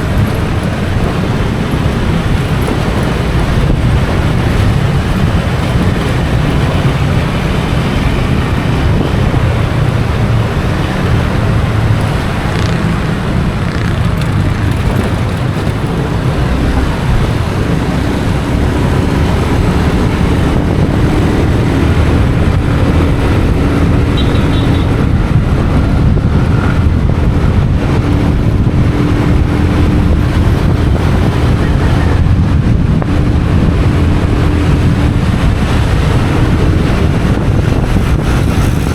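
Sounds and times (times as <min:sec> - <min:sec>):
motorcycle engine running: 0:00.0 - 0:38.9
road traffic noise: 0:00.0 - 0:38.9
wind rushing over microphone: 0:00.0 - 0:38.9.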